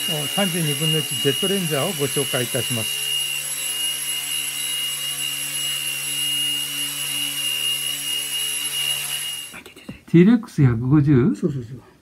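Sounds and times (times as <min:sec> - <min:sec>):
rc helicopter rotor whine: 0:00.0 - 0:09.7.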